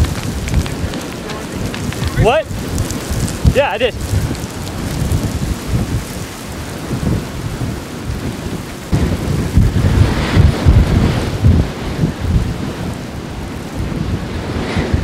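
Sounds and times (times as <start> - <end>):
storm wind rumbling on microphone: 0.0 - 15.0.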